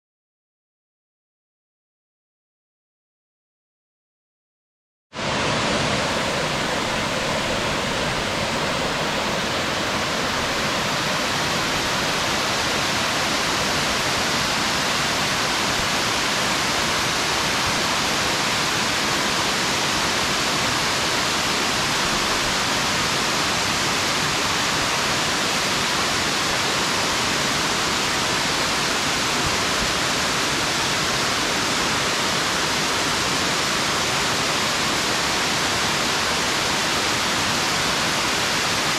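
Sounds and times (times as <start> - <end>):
waterfall rushing: 5.2 - 38.9.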